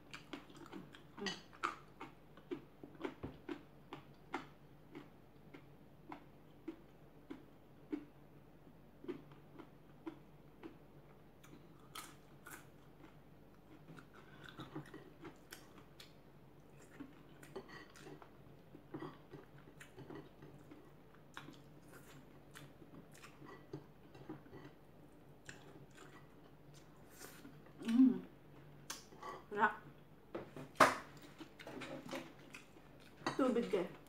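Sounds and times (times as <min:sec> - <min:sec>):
faint close chewing: 0:00.0 - 0:08.2, 0:09.0 - 0:29.5, 0:31.1 - 0:34.0.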